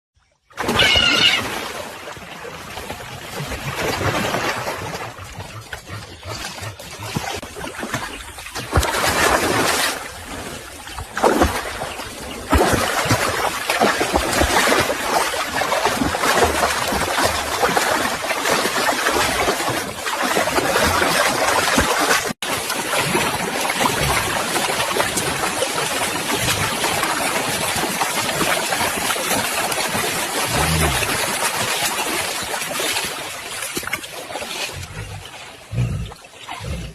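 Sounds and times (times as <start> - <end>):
splashing rushing water: 0.6 - 36.9.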